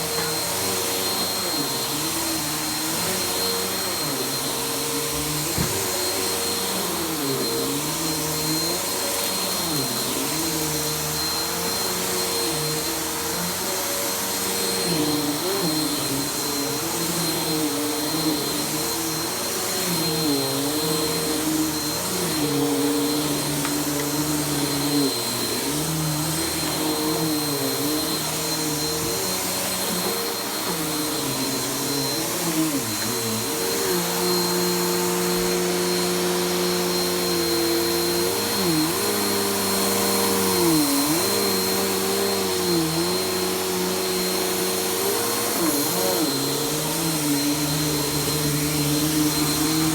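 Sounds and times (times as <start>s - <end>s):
vacuum cleaner on carpet: 0.0s - 49.9s.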